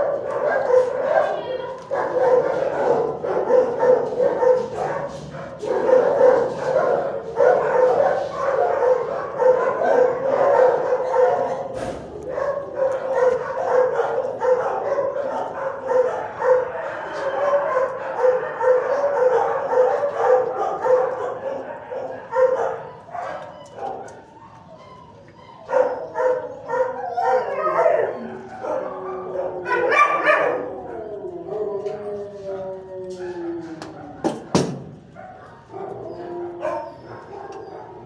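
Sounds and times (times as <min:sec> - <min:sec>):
dogs barking and yipping: 0:00.0 - 0:38.0.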